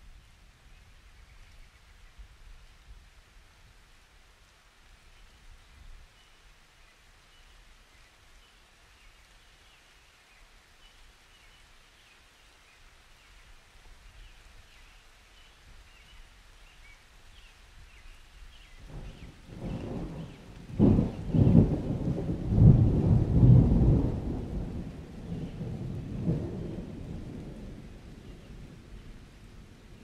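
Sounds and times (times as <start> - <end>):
steady low hiss: 0.0 - 30.0.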